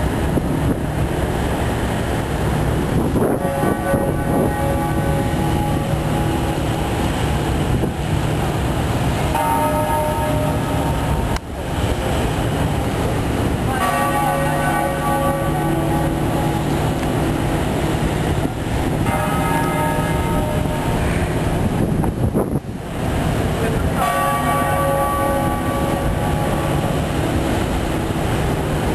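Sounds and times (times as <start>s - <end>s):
steady low rumble: 0.0s - 28.9s
large bell tolling: 3.3s - 22.2s, 23.0s - 28.9s.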